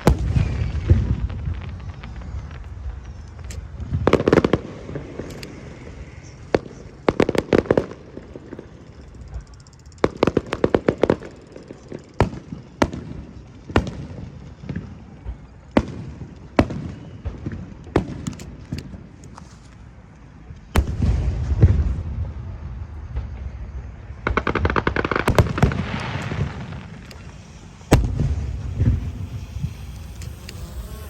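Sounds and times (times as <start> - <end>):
fireworks cracking bangs: 0.0 - 8.9, 10.0 - 19.2, 19.8 - 31.0.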